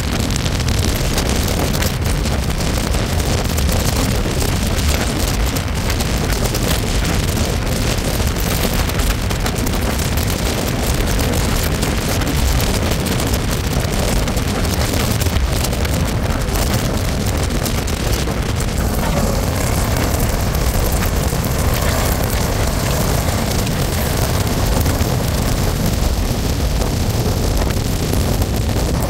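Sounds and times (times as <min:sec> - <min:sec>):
rushing wind: 0:00.0 - 0:29.0
train wheels rumbling on track: 0:00.0 - 0:29.0.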